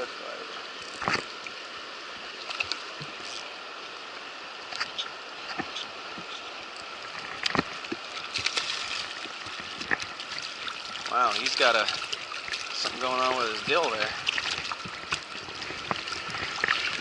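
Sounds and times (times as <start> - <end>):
river water rushing: 0.0 - 17.0
small splashes and knocks: 0.8 - 1.6, 2.4 - 3.5, 4.7 - 17.0.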